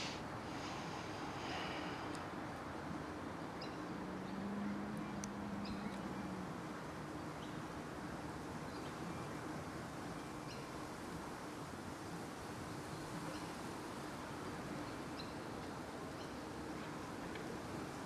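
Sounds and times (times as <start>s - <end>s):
low outdoor hum: 0.0s - 18.0s.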